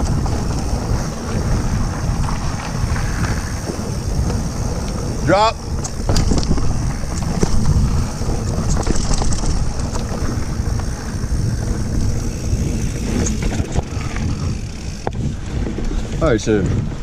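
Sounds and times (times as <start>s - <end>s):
bike clicks and rattles: 0.0s - 17.0s
wind over microphone: 0.0s - 17.0s.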